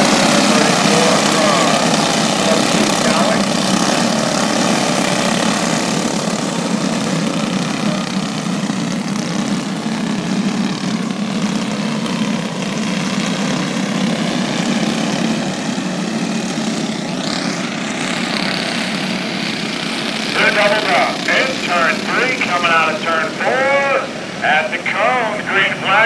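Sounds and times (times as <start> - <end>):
racing kart engines: 0.0 - 26.0.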